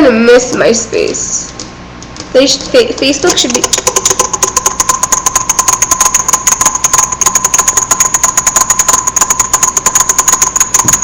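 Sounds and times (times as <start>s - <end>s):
rapid even tapping: 1.5s - 11.0s.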